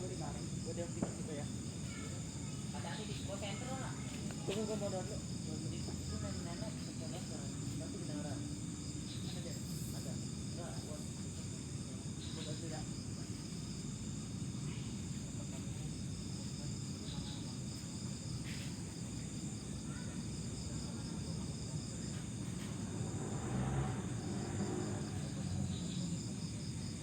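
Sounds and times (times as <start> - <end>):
night insects chirping: 0.0 - 27.0.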